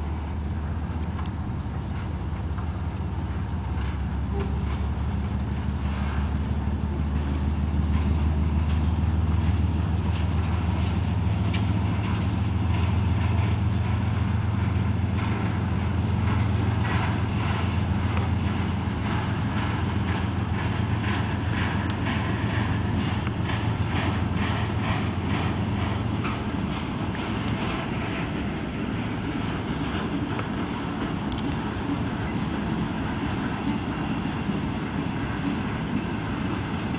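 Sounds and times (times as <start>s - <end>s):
low engine drone: 0.0s - 36.9s
train cars clicking and knocking: 0.0s - 36.9s.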